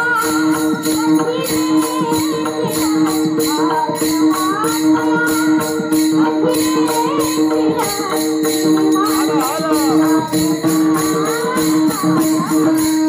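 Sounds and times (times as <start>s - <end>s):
hand cymbals clashing: 0.0s - 13.0s
women singing devotional melody: 0.0s - 13.0s.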